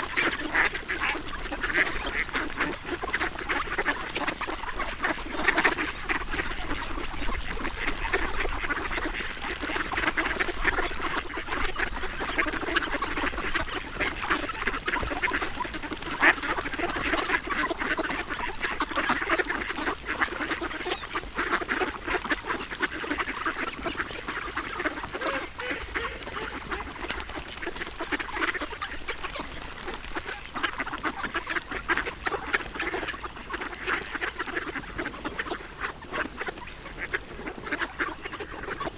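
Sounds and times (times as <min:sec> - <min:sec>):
ducks quacking and chattering: 0:00.0 - 0:38.9.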